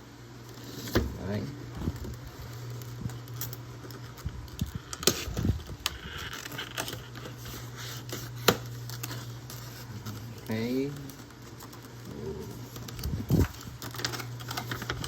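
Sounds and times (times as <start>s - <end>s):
cardboard rustling: 0.4s - 15.0s.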